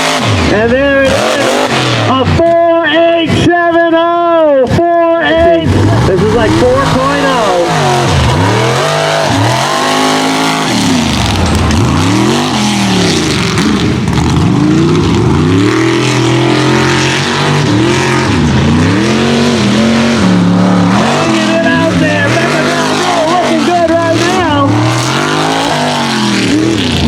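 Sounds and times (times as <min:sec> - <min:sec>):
large engine revving: 0:00.0 - 0:27.0.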